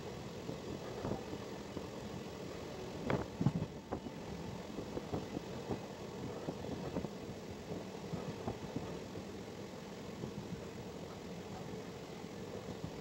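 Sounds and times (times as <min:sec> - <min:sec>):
train clacks and knocks: 0:00.0 - 0:13.0
train wheels rumbling on rails: 0:00.0 - 0:13.0.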